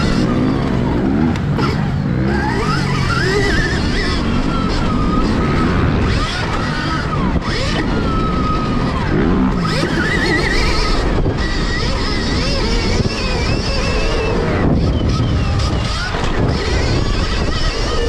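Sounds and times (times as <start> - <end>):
electric motorbike motor whining: 0.0 - 18.0
rushing riding noise: 0.0 - 18.0.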